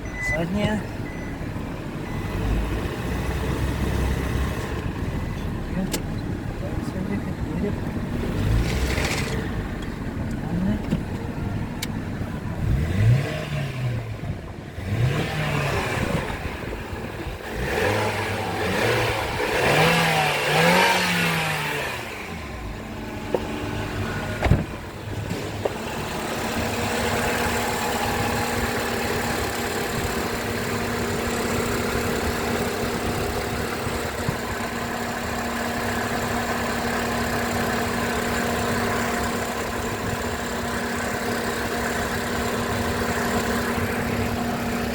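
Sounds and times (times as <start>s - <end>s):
car engine revving and idling: 0.0s - 44.9s.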